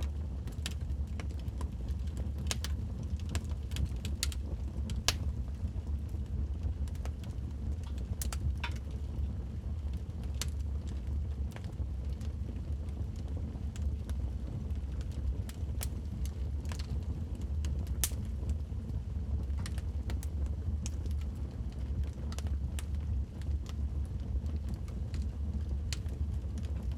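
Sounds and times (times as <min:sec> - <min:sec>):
log fire crackling and popping: 0:00.0 - 0:26.9
low fire rumble: 0:00.0 - 0:26.9.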